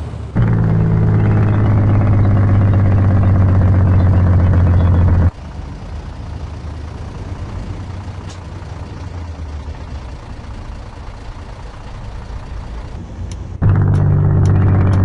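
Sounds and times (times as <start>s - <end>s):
diesel truck engine drone: 0.0s - 15.0s
road noise: 0.0s - 15.0s.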